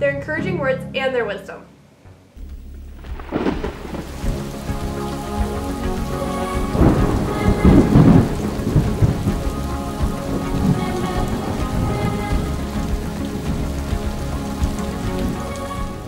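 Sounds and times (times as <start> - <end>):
rolling thunder: 2.4 - 15.9
steady rain: 2.4 - 16.0.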